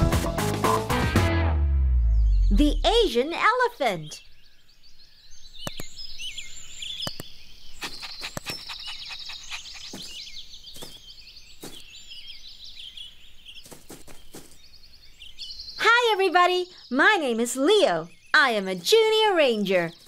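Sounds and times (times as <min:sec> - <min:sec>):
small birds chirping: 0:02.0 - 0:20.0.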